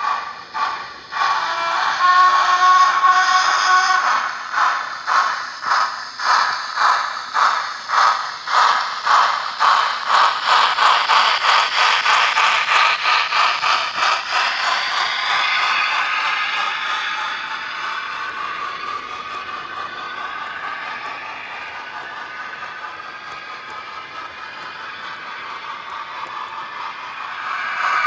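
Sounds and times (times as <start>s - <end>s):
model steam locomotive chuffs: 0.0s - 28.0s.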